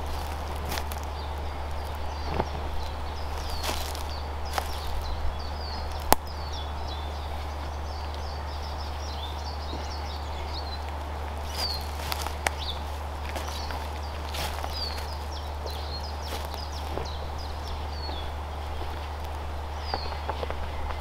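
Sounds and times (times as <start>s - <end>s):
small birds singing and twittering: 0.0s - 21.0s.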